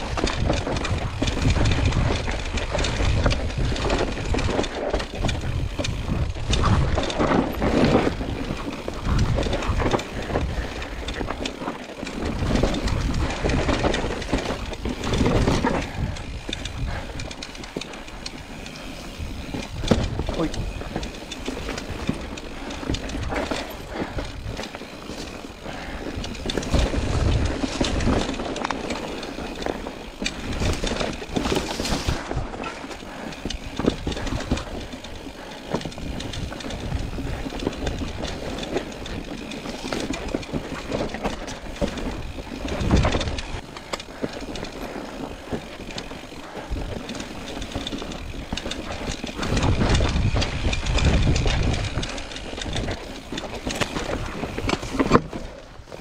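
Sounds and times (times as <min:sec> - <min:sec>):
bike chain and frame clattering: 0:00.0 - 0:56.0
bike jolts: 0:00.0 - 0:56.0.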